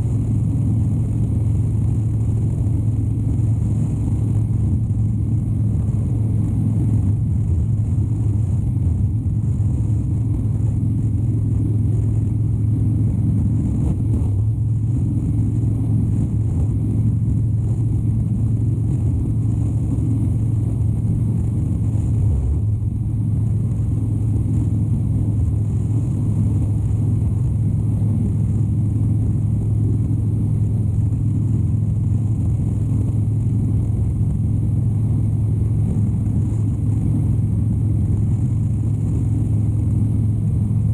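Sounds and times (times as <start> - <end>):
motorcycle engine cruising: 0.0 - 40.9
road noise: 0.0 - 40.9.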